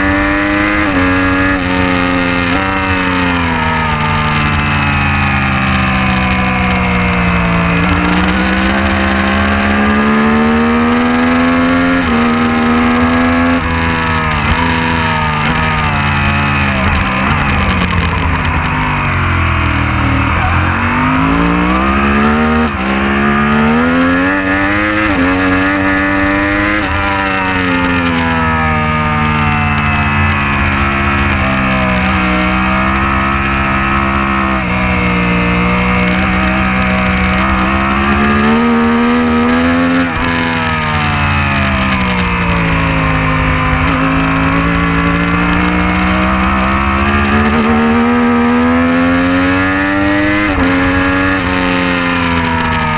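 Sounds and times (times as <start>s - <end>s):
racing motorcycle engine: 0.0s - 52.9s.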